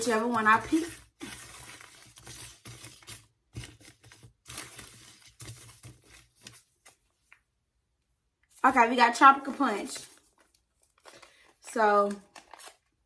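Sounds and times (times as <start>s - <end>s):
paper packets rustling: 0.0s - 7.5s, 8.6s - 13.0s.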